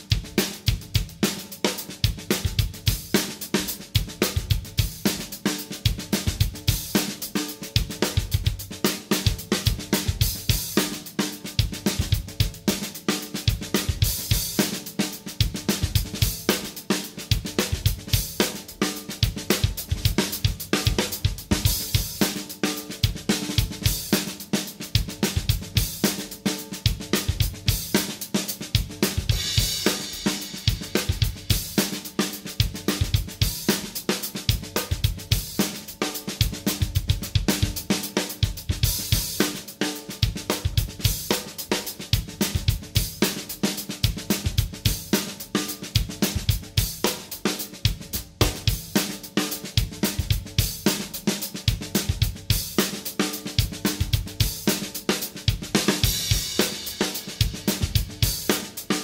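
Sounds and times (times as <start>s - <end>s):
acoustic drum kit groove: 0.0s - 59.0s.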